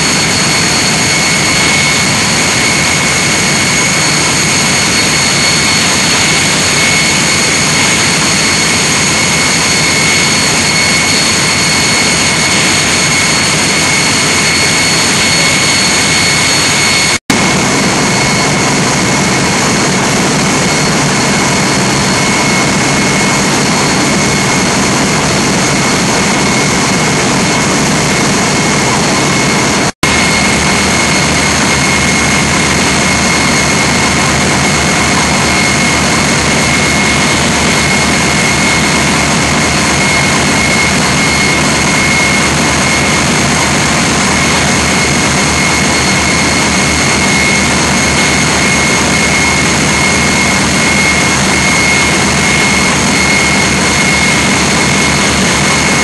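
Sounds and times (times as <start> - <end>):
high engine whine: 0.0 - 56.0
large engine running: 0.0 - 56.0.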